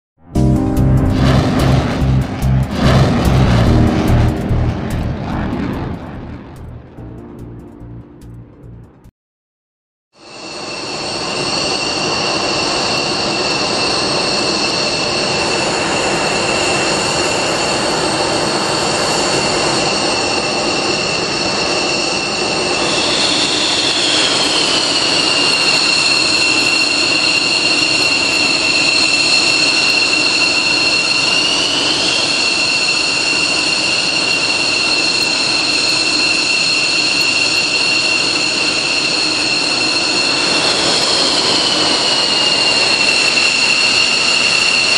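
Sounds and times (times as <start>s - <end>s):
jet engine high-pitched whine: 0.2s - 8.1s, 10.2s - 44.9s
rushing noise: 0.2s - 9.1s, 10.3s - 44.9s.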